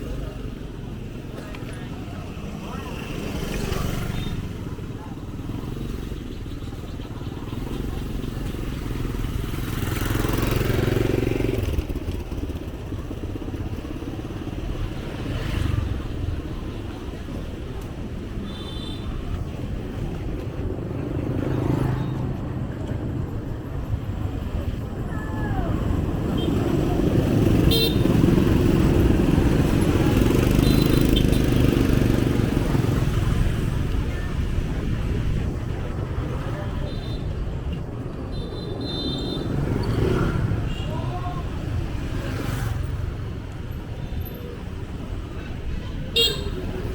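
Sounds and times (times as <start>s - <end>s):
motorbike engines passing: 0.0s - 46.9s
street traffic: 0.0s - 46.9s.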